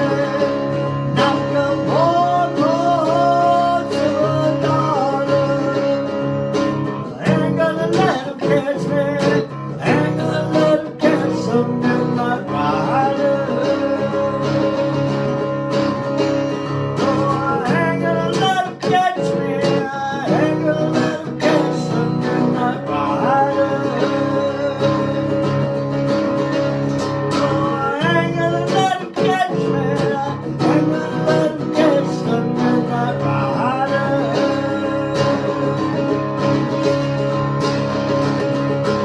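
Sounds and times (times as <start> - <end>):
guitar strummed and picked: 0.0 - 39.0.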